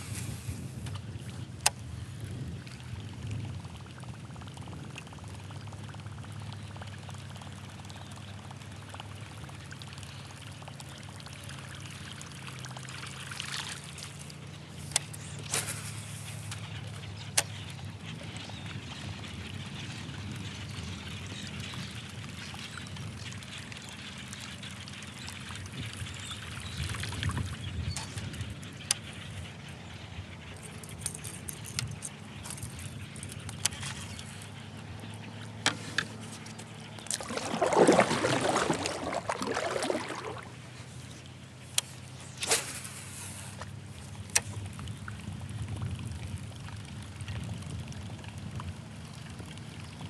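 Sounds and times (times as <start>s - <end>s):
low steady hum: 0.0s - 50.0s
water trickling and lapping: 0.0s - 50.0s.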